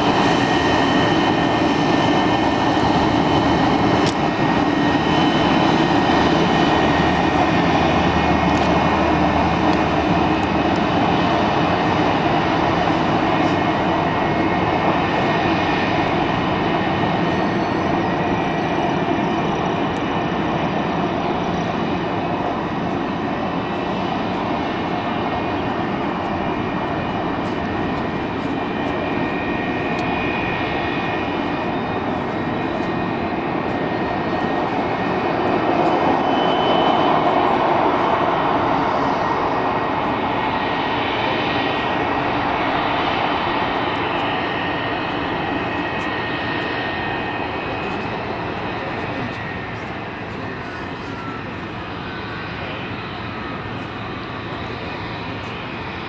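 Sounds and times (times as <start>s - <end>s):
jet airliner taxiing: 0.0s - 56.0s.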